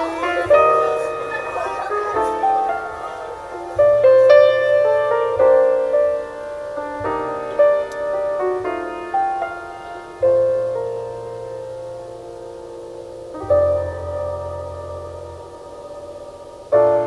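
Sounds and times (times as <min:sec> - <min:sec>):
piano music through speakers: 0:00.0 - 0:17.0.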